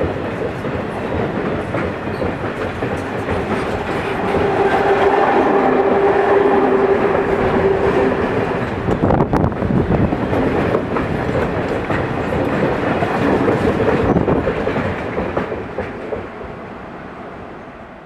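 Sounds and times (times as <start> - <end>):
wheels clacking on rails: 0.0 - 16.4
freight train rolling past: 0.0 - 18.0.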